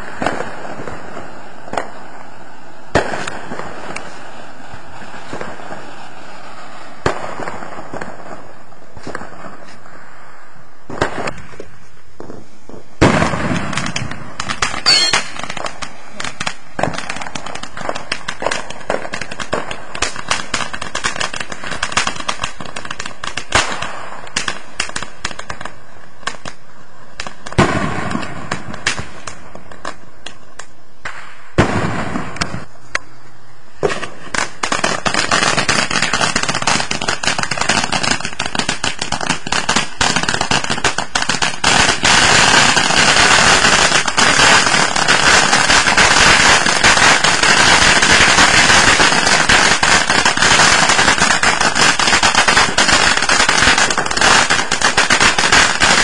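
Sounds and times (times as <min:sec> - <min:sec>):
firework fountain hissing and crackling: 0:00.0 - 0:56.0.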